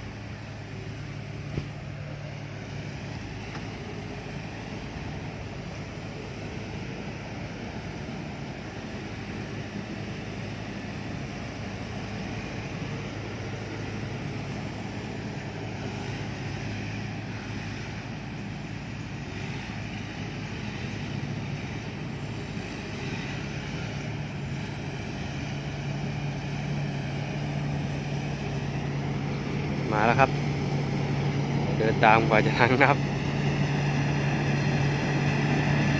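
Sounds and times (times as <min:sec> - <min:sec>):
combine harvester engine droning: 0:00.0 - 0:35.9.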